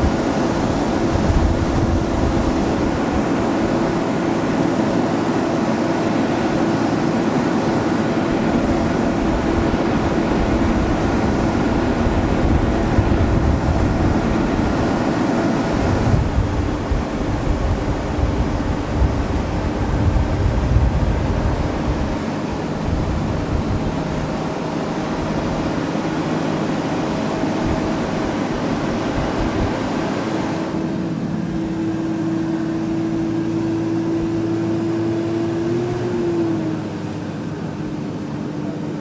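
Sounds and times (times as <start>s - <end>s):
large engine rumbling: 0.0s - 39.0s.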